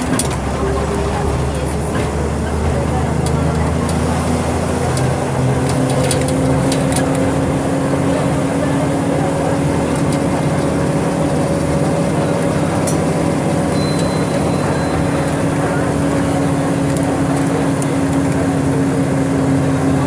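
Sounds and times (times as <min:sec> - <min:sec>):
bus body rattling: 0:00.0 - 0:20.0
diesel bus engine pulling: 0:00.0 - 0:20.0.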